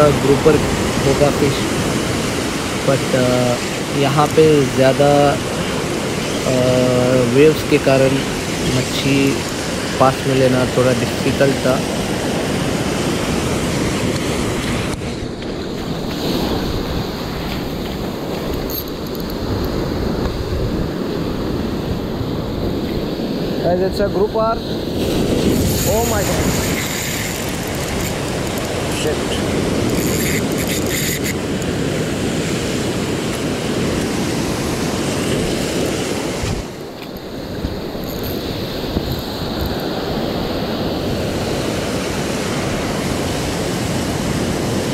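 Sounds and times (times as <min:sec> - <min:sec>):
heavy surf on rocky shore: 0:00.0 - 0:44.9
wind buffeting microphone: 0:00.0 - 0:44.9.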